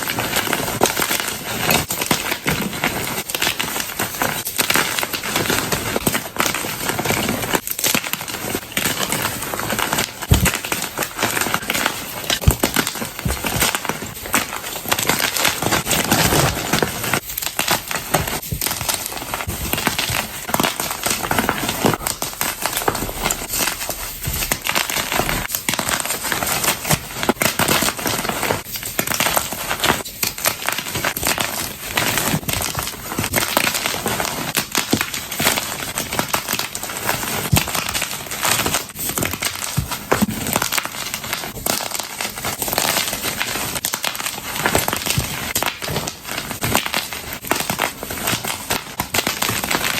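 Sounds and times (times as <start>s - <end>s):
chalk blocks crunching by hand: 0.0s - 49.9s.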